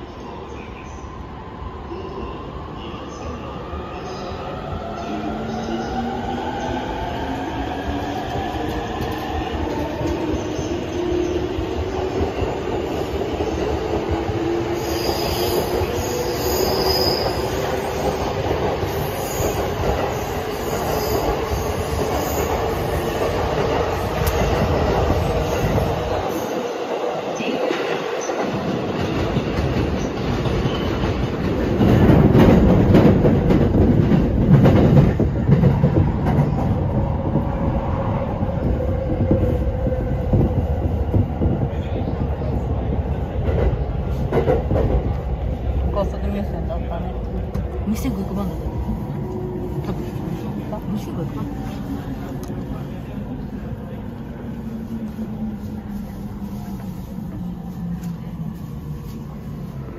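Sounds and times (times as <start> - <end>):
train wheels rumbling on rail: 3.9 - 59.9.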